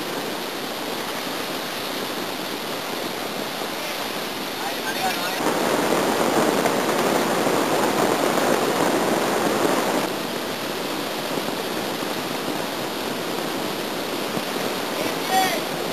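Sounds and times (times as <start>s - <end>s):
whitewater rapid rushing: 0.0s - 15.9s.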